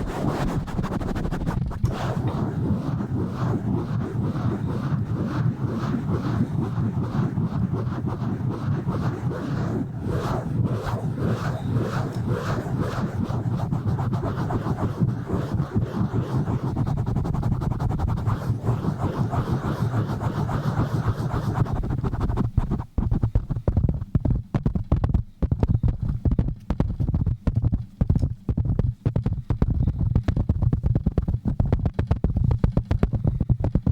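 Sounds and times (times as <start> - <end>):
hand rubbing a microphone: 0.0 - 33.9.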